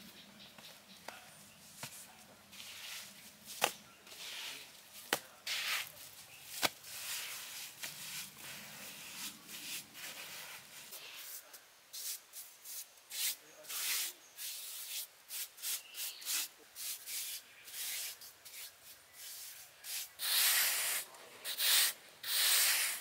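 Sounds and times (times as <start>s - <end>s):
hands smearing wet mortar: 1.8s - 23.0s.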